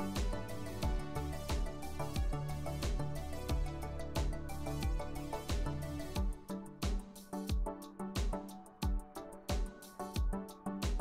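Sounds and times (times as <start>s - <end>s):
music with steady beat: 0.0s - 11.0s.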